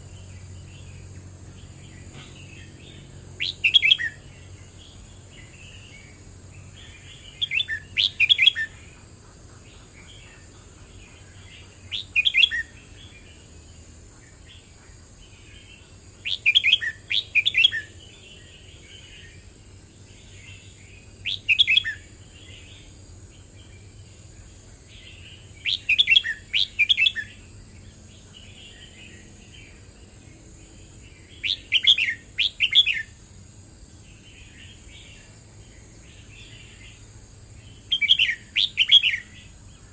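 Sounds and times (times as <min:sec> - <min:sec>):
soft bird twittering: 0:00.0 - 0:33.2, 0:34.0 - 0:39.9
bird singing warbled phrases: 0:00.0 - 0:33.3, 0:33.9 - 0:39.9.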